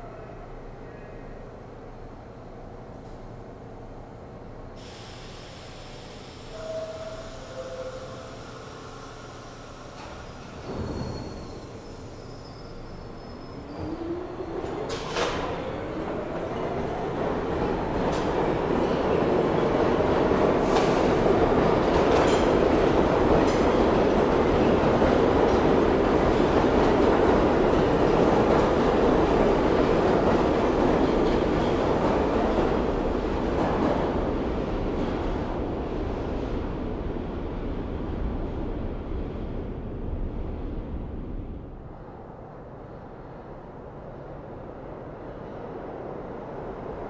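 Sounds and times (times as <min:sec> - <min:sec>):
subway train wheels rumbling: 0:00.0 - 0:47.0.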